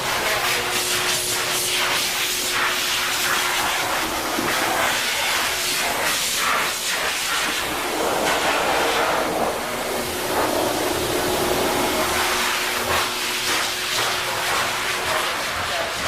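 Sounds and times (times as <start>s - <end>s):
pet dryer blowing air: 0.0s - 16.0s.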